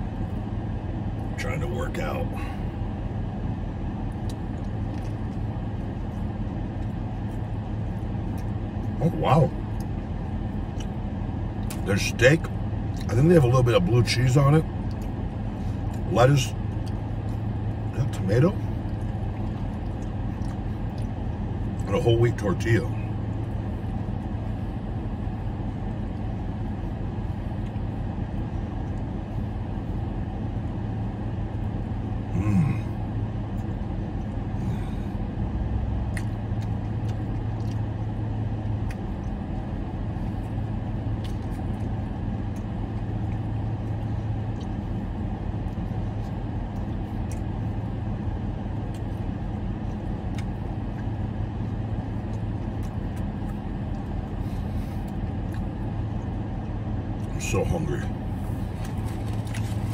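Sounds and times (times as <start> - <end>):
car idling hum: 0.0 - 59.9
faint chewing: 4.0 - 31.3, 32.4 - 57.3, 58.1 - 59.9.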